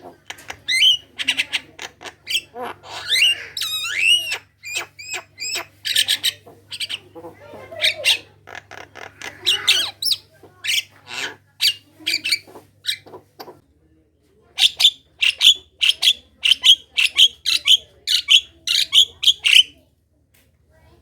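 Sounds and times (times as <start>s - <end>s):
myna bird chattering: 0.0s - 13.6s, 14.6s - 19.8s.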